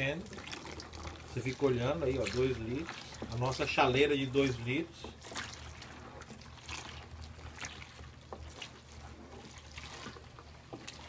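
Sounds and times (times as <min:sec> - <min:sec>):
water pouring into pot: 0:00.0 - 0:11.0
wooden spoon stirring: 0:00.0 - 0:11.0.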